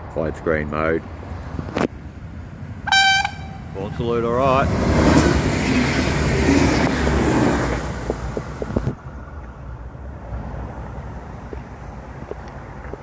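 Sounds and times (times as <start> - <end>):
train passing at high speed: 1.1 - 12.7.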